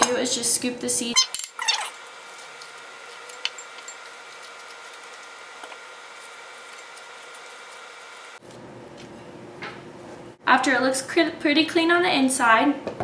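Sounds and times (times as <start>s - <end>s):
background hiss and hum: 0.0s - 13.0s.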